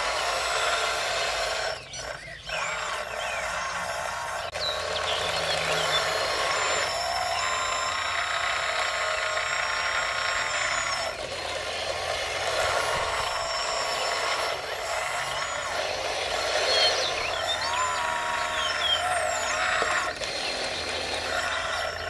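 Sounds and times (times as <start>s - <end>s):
high whine of small electric motors: 0.0s - 22.0s.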